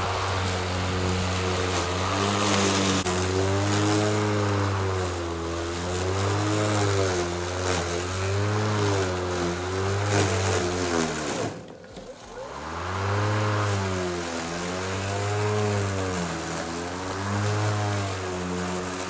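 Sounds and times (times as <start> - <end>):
lawn mower running in grass: 0.0 - 19.0.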